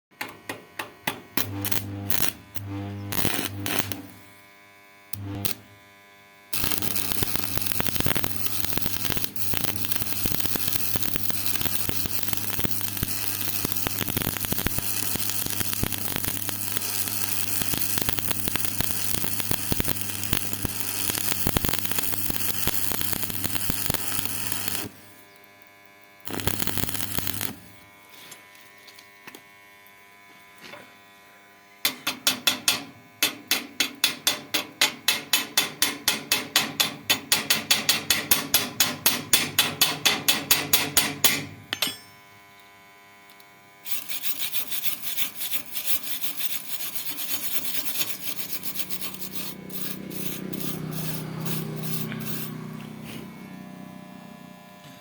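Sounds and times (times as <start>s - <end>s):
welding machine buzzing: 0.2s - 55.0s
welding arc crackling: 1.1s - 4.5s, 5.1s - 5.8s, 6.5s - 28.0s, 32.1s - 41.5s, 43.9s - 53.0s.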